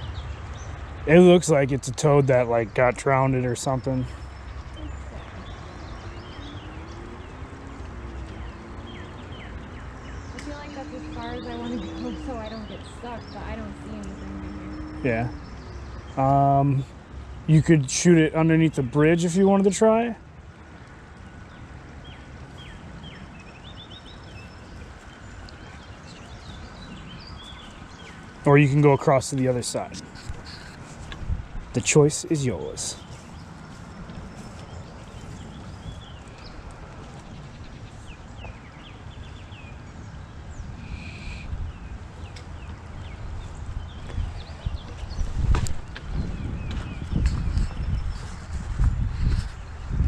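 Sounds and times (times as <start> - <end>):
small birds chirping: 0.0 - 50.0
steady outdoor hiss: 0.0 - 50.0.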